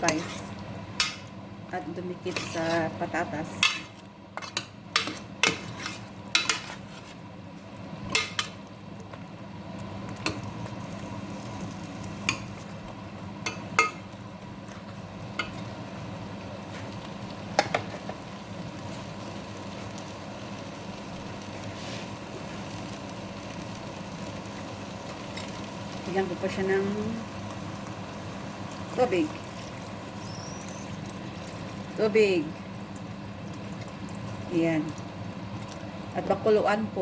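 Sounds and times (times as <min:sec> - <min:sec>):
potatoes sizzling in a pan: 0:00.0 - 0:07.1, 0:09.8 - 0:37.0.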